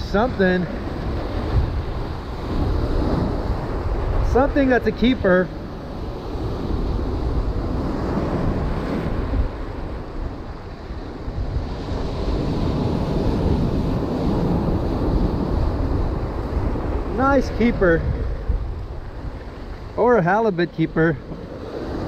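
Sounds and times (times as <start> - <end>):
ocean surf breaking on rocks: 0.0 - 22.0
wind buffeting microphone: 0.0 - 22.0.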